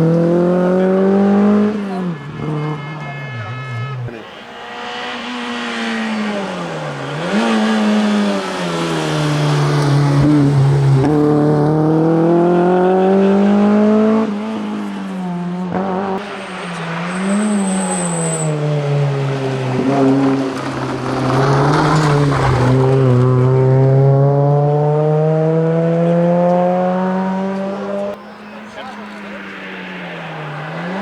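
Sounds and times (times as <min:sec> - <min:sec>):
rally car engine driven hard: 0:00.0 - 0:31.0.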